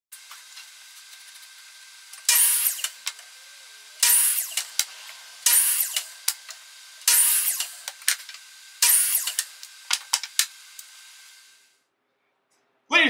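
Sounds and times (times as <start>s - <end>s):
saw cutting wood: 0.1s - 11.7s.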